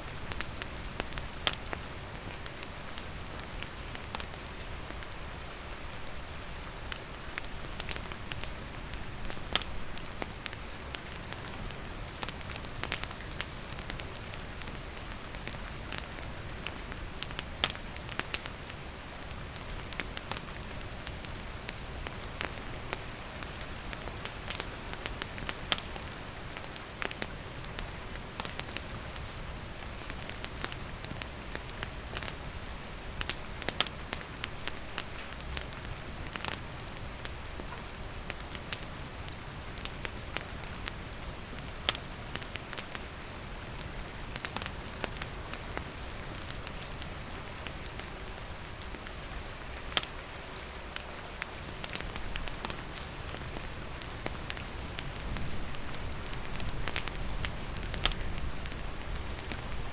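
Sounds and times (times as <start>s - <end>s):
campfire crackling: 0.0s - 59.9s
steady rain: 0.0s - 59.9s.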